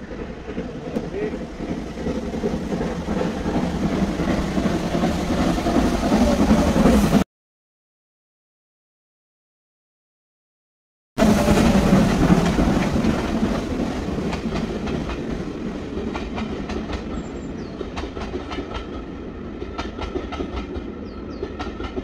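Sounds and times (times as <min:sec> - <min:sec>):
steam locomotive passing: 0:00.0 - 0:07.2, 0:11.2 - 0:22.0
train wheels clicking over rail joints: 0:00.0 - 0:07.2, 0:11.4 - 0:22.0.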